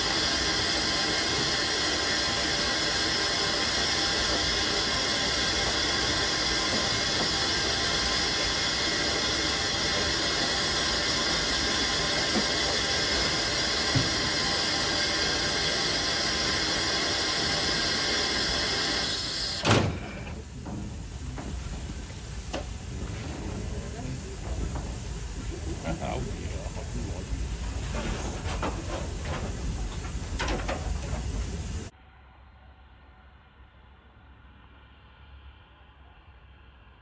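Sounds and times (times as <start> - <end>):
steam locomotive hissing: 0.0 - 31.9.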